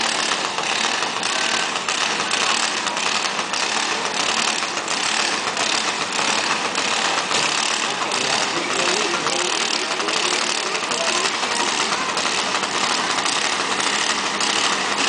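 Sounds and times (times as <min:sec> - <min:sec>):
single-cylinder engine idling: 0:00.0 - 0:15.0.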